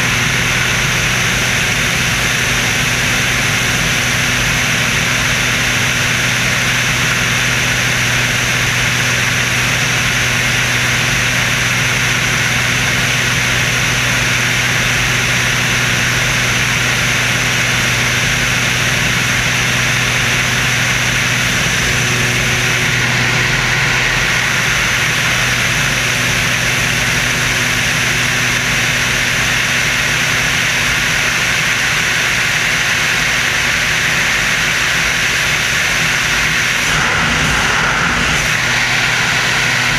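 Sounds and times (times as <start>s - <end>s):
biplane engines droning: 0.0s - 39.9s.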